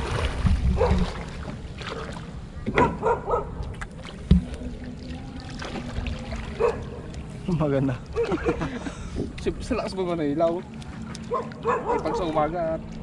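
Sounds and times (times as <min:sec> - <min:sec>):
shallow water splashing: 0:00.0 - 0:13.0.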